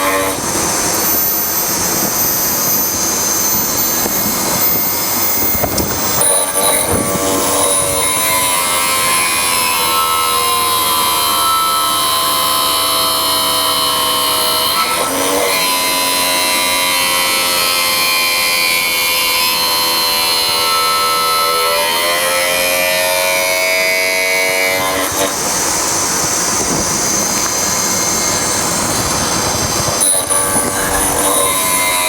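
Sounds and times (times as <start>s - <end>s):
grinding wheel whine: 0.0s - 32.0s.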